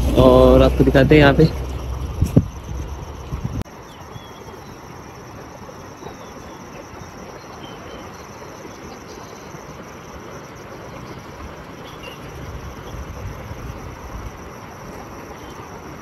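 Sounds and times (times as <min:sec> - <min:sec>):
steady rushing outdoor noise: 0:00.0 - 0:16.0
faint high chirps: 0:02.4 - 0:16.0.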